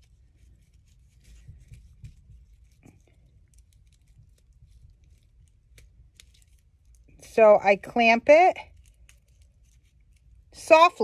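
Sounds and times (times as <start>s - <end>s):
small clicks and rustles: 0.0s - 7.2s, 8.6s - 10.5s
low steady hum: 0.0s - 11.0s.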